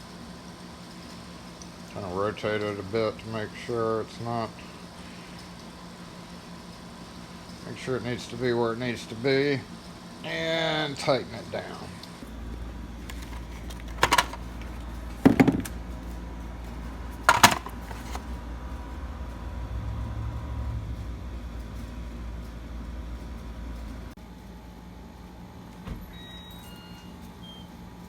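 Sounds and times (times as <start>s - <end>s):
steady low hum: 0.0s - 25.7s.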